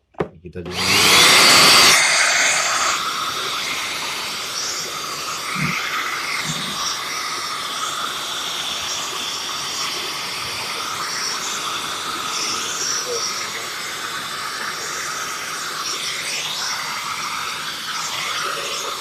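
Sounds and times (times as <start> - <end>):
hand vacuum cleaner running: 0.6 - 19.0.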